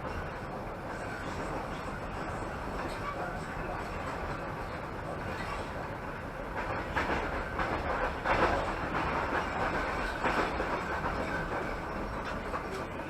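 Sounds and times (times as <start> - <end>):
train wheels clattering: 0.0 - 13.0
train wheels rumbling on rails: 0.0 - 13.0.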